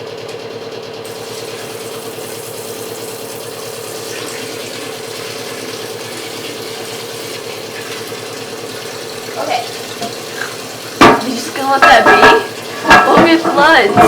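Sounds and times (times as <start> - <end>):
toilet water running: 1.0 - 14.0.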